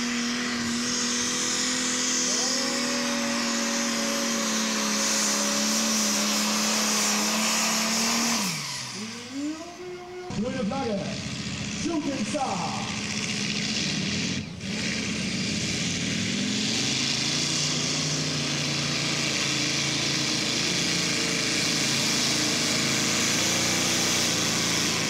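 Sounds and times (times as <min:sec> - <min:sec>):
tractor engines roaring under load: 0:00.0 - 0:25.0.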